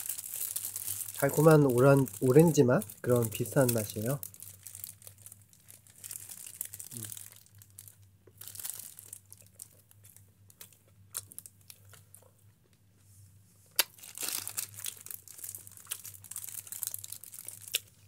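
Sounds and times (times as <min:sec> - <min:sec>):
plastic bag crinkling: 0:00.0 - 0:12.2, 0:13.9 - 0:18.0.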